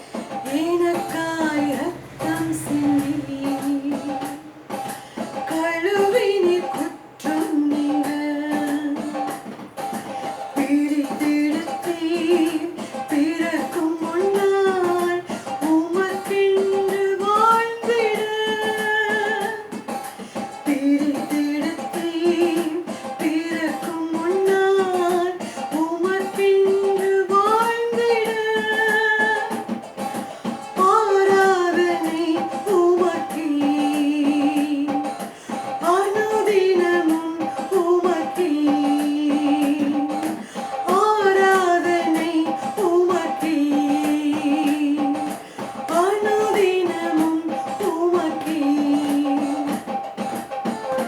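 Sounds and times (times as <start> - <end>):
guitar accompaniment: 0.0 - 51.0
person singing: 0.0 - 51.0.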